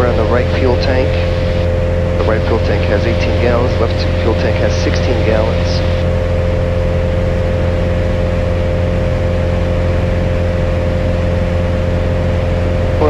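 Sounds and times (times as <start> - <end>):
airplane engine and propeller drone: 0.0 - 13.0.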